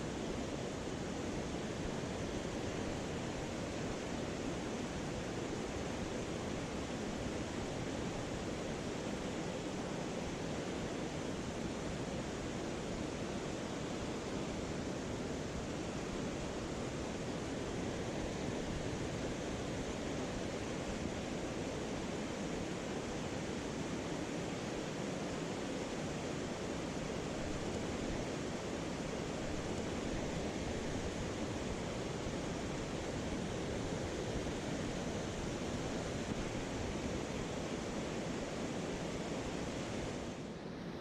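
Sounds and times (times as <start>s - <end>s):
stream water rushing: 0.0s - 40.7s.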